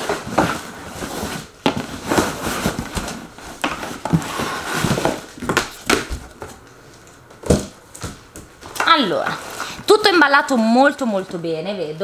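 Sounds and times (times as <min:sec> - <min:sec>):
cardboard rustling and scraping: 0:00.0 - 0:10.6.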